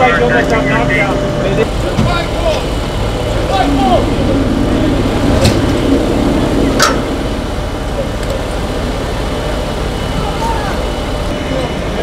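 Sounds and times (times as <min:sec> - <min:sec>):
fire engines rumbling: 0:00.0 - 0:12.0.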